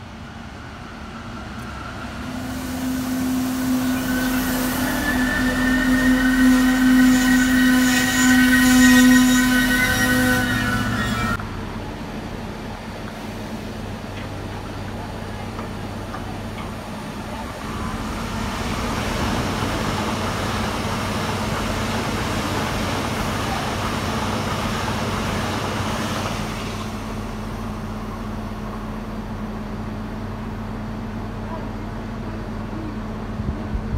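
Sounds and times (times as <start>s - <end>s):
electric train passing: 0.0s - 29.7s.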